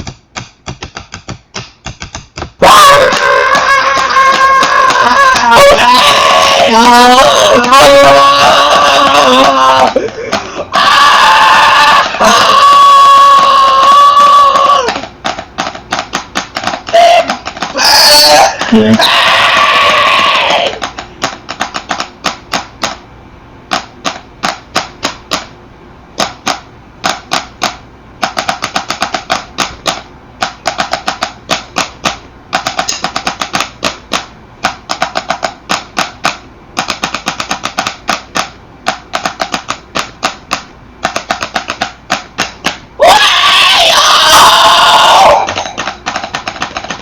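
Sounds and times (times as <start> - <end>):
rapid sharp clacks: 0.0 - 10.8, 11.6 - 25.6, 26.2 - 43.6, 44.3 - 47.0.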